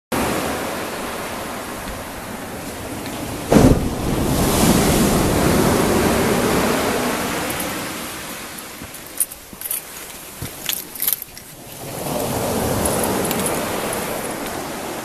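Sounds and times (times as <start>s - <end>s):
wave washing in: 0.2s - 10.8s, 11.5s - 15.0s.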